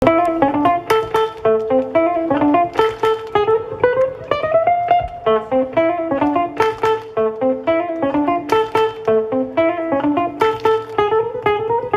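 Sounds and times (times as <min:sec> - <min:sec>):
plucked guitar melody: 0:00.0 - 0:11.9.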